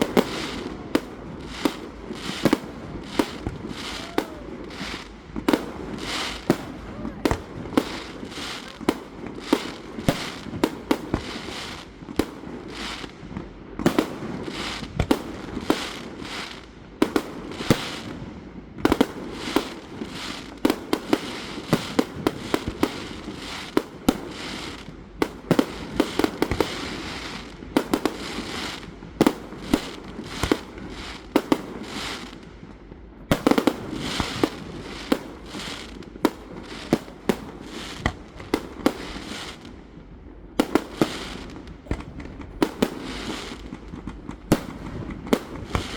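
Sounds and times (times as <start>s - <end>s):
fireworks crackling: 0.0s - 32.5s, 33.3s - 45.9s
fireworks bursting and banging: 0.0s - 32.7s, 33.3s - 45.9s.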